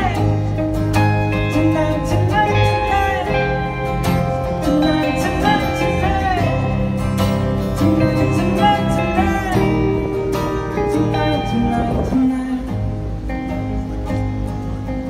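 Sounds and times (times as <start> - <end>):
person singing: 0.0 - 13.4
rock band playing live: 0.0 - 15.0
strummed acoustic guitar: 0.0 - 15.0.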